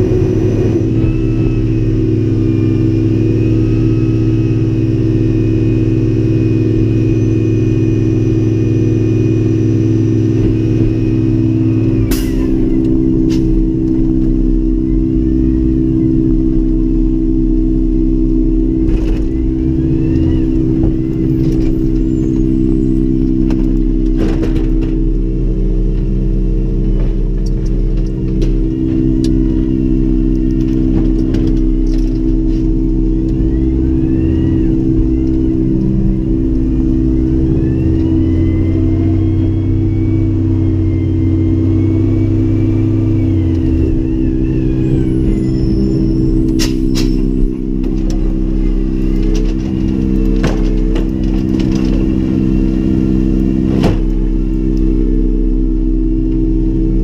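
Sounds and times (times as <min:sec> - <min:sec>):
faint rising tones: 0:00.0 - 0:57.0
truck engine running: 0:00.0 - 0:57.0.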